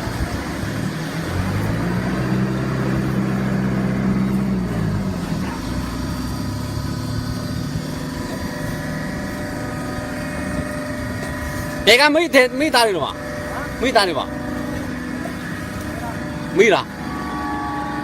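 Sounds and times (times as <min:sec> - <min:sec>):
baling press machine hum: 0:00.0 - 0:18.0
pitched machine drone: 0:00.0 - 0:18.0.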